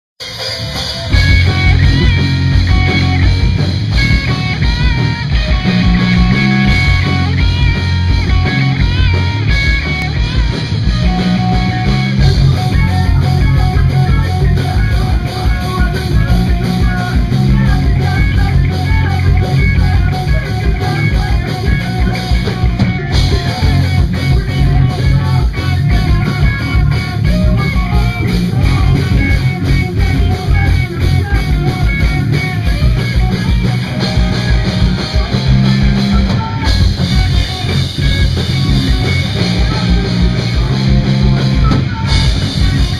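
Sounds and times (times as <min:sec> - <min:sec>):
drum kit beat: 0:00.2 - 0:42.9
electric guitars: 0:00.2 - 0:42.9.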